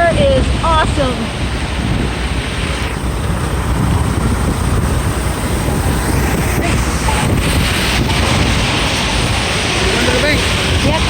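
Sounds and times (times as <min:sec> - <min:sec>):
rain hiss: 0:00.0 - 0:11.0
street noise: 0:00.0 - 0:11.0
wind buffeting microphone: 0:00.0 - 0:11.0.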